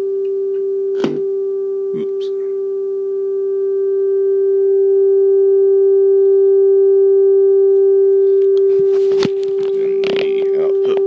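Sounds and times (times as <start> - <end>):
test tone from radio loudspeaker: 0.0 - 11.0.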